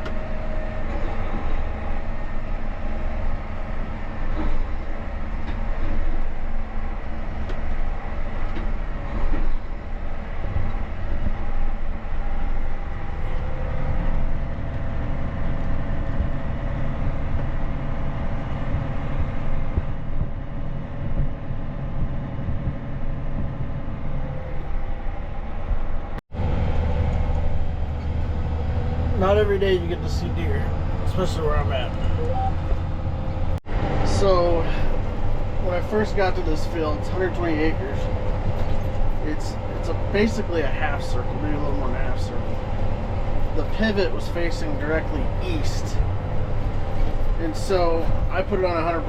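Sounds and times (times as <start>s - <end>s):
diesel vehicle engine rumble: 0.0s - 49.0s.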